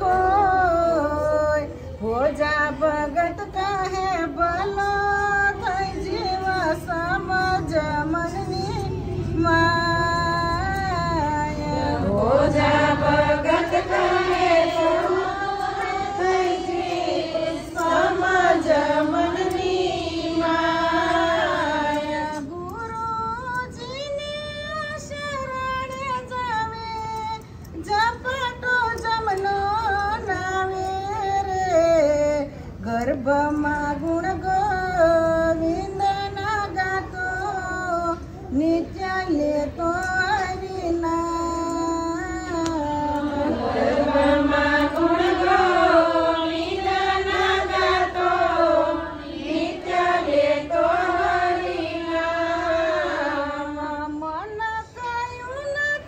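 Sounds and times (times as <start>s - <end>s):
woman singing devotional song: 0.0s - 56.0s.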